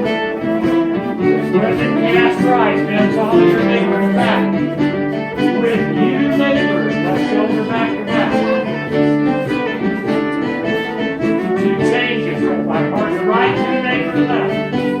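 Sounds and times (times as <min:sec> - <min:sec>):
fiddle melody: 0:00.0 - 0:15.0
plucked strings: 0:00.0 - 0:15.0.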